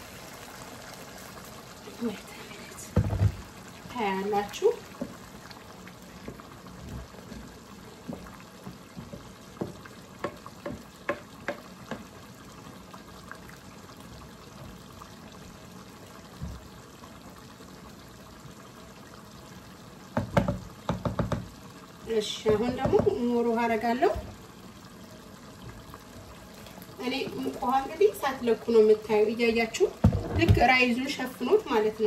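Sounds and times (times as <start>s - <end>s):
rice pot sizzling: 0.0s - 32.0s.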